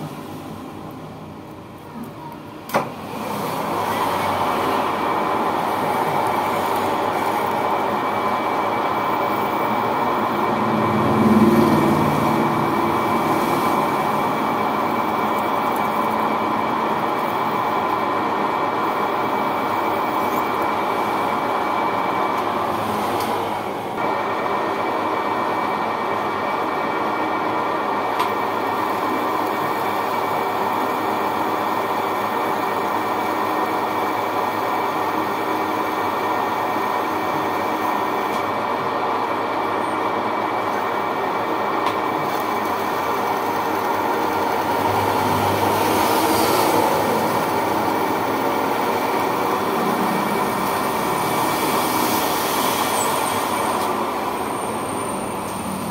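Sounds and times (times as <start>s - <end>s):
lathe mechanical drone: 2.4s - 55.9s
thin steady whine: 3.7s - 55.9s.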